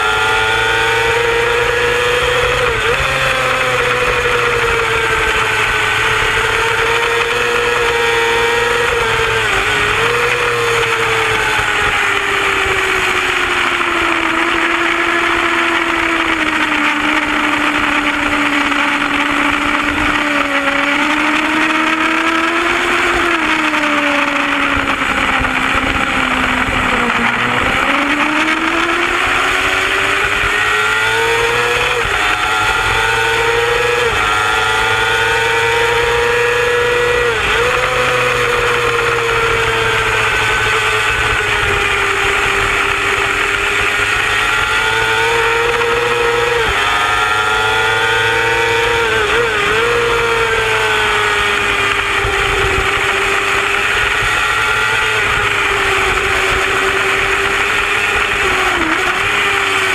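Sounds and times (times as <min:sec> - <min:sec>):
motorcycle engine at high revs: 0:00.0 - 0:59.9
wind rush: 0:01.8 - 0:59.9.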